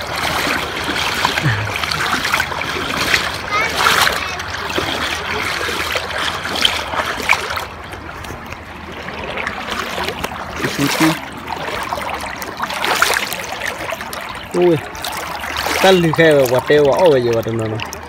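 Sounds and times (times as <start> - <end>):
river water rippling over stones: 0.0 - 18.0
water splash: 0.0 - 18.0.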